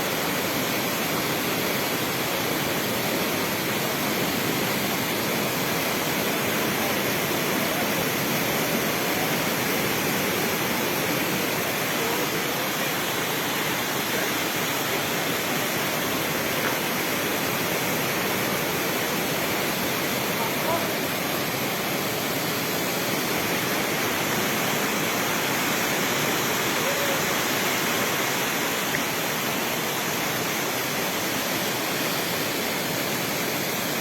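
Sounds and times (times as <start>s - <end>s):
waterfall pouring and splashing: 0.0s - 34.0s.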